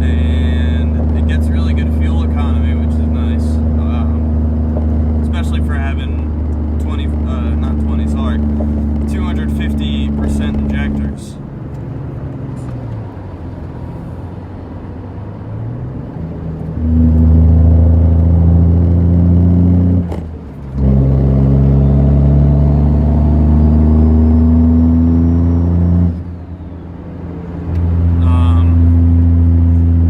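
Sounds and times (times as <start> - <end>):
diesel truck accelerating: 0.0 - 30.0.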